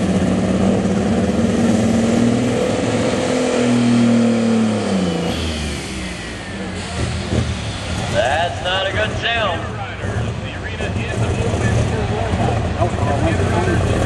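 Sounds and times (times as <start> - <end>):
tractor engine running hard: 0.0 - 14.0.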